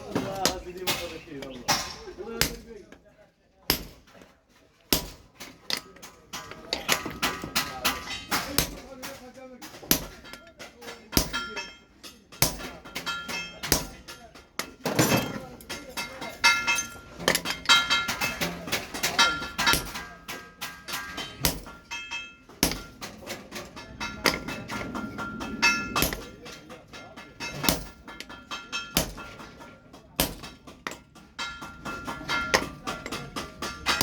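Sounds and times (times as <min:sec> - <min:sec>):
hammer striking steel on anvil: 0:03.7 - 0:04.1, 0:04.9 - 0:34.0.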